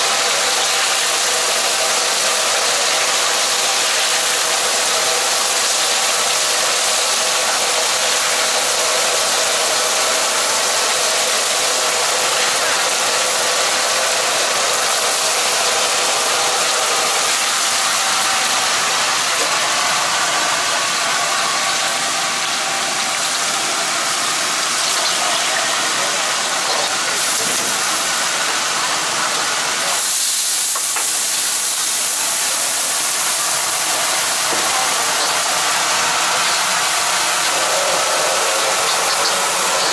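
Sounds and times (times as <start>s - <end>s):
oil sizzling in a wok: 0.0s - 39.9s.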